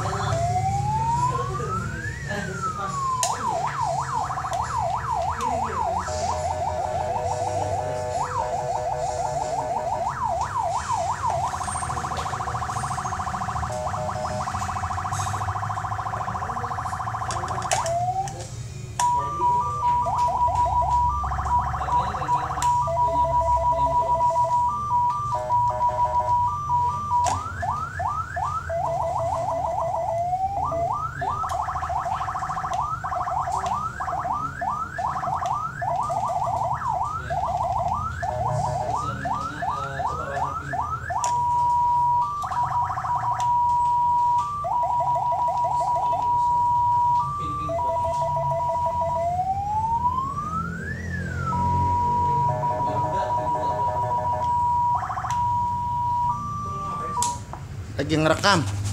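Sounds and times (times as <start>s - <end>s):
electronic siren tones and yelps: 0.0s - 18.4s, 19.0s - 57.4s.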